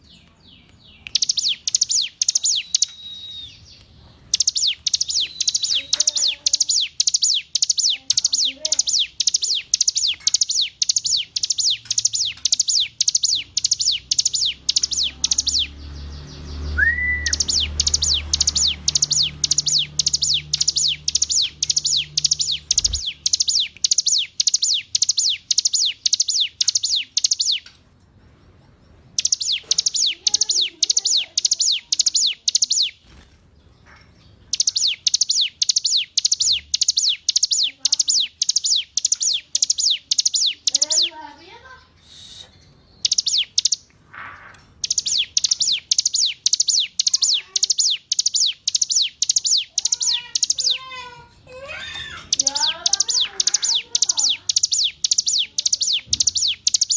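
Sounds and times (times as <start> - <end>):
bird singing rapid high chirps: 0.0 - 27.8, 29.1 - 56.9.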